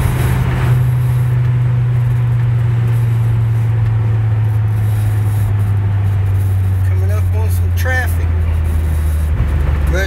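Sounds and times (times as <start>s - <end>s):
car engine drone from inside cabin: 0.0s - 10.0s.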